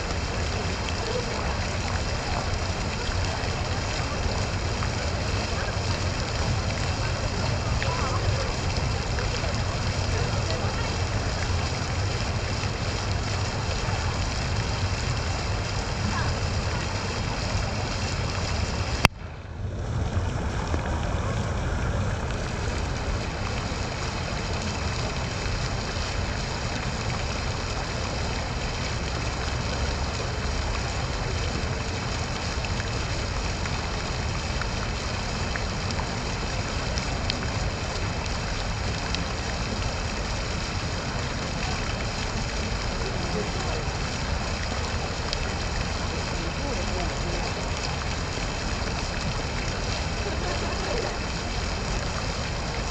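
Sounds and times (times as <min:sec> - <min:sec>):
fountain water splashing: 0:00.0 - 0:52.9.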